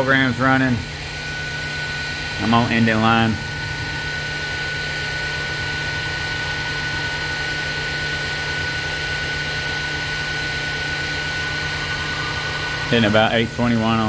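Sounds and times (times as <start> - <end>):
high steady whine: 0.0 - 14.0
milling machine hum: 0.0 - 14.0.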